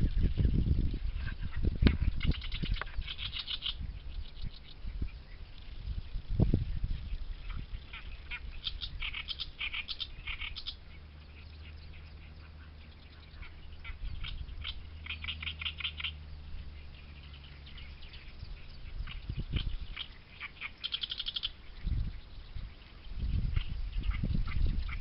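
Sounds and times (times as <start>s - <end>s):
reed warbler chattering song: 0.0s - 25.0s
steady low rumble: 0.0s - 25.0s.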